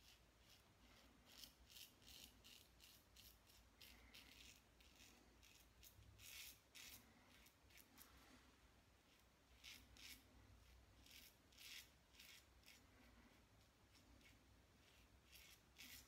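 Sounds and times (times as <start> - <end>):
razor scraping stubble: 0.0 - 8.1, 9.1 - 16.0.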